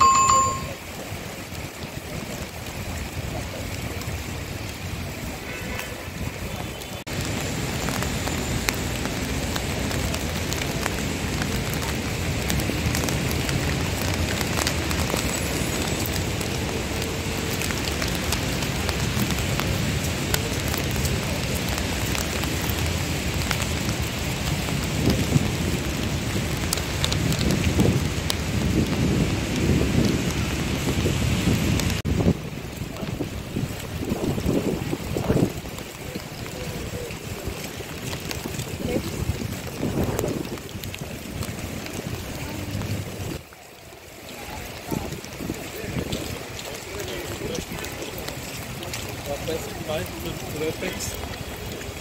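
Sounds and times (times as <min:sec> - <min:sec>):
rain on wet paving: 0:00.0 - 0:52.0.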